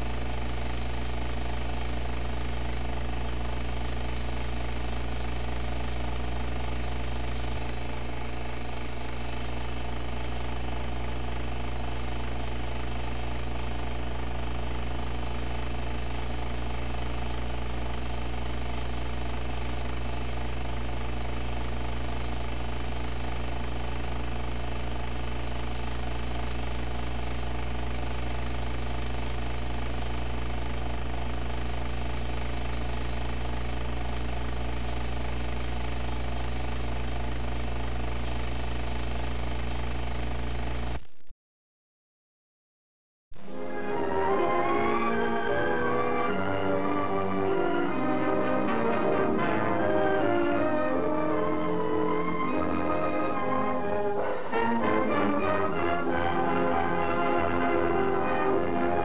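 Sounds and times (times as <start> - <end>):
steady low buzzing hum: 0.0 - 41.0, 43.4 - 59.0.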